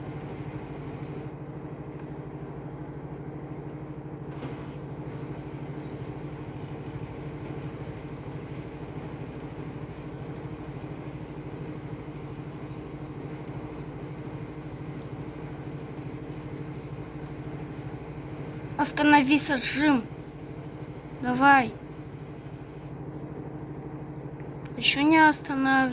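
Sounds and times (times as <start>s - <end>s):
washing machine spinning: 0.0s - 25.9s.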